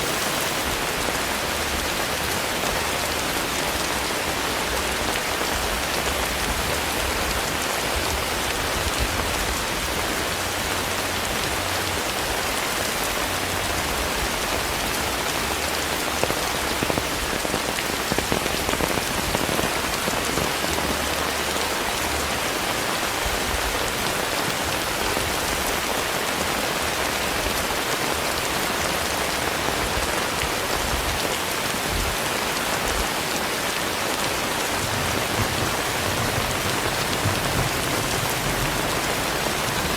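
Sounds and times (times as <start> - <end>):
rain drops tapping: 0.0 - 39.9
steady rainfall: 0.0 - 39.9.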